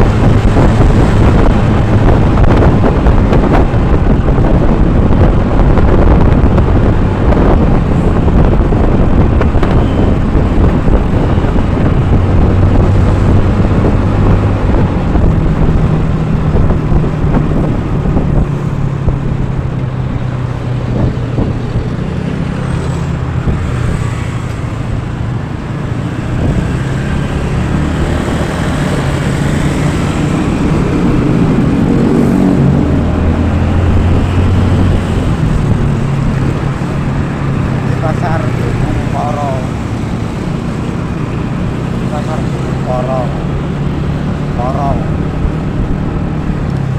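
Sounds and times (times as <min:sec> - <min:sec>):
road and wind noise: 0:00.0 - 0:46.9.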